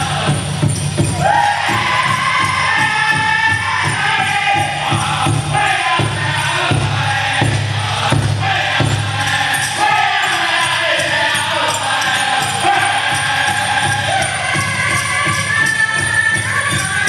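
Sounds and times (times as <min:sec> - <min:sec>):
group singing in high voices: 0:00.0 - 0:17.0
large drum steady beat: 0:00.0 - 0:17.0.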